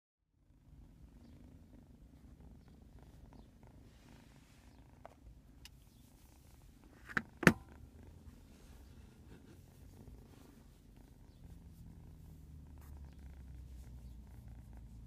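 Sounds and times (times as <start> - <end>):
kittens purring: 0.4 - 15.0.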